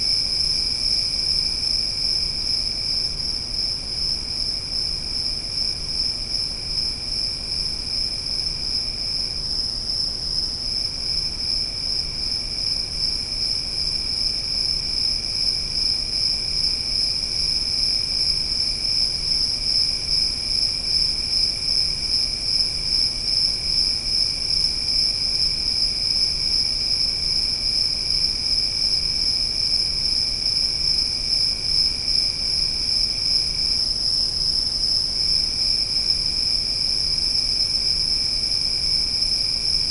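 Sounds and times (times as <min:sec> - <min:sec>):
crickets trilling: 0:00.0 - 0:39.9
lower insect tone: 0:00.0 - 0:39.9.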